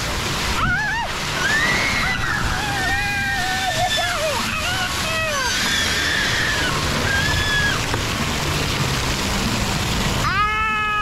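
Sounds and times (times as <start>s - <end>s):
water jets splashing: 0.0s - 11.0s.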